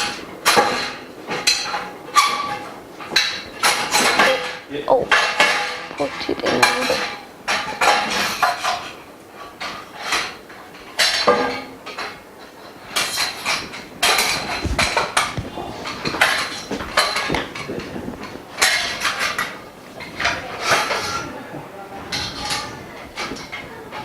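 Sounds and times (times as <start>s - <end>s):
metal frame bars clattering: 0.0s - 24.0s.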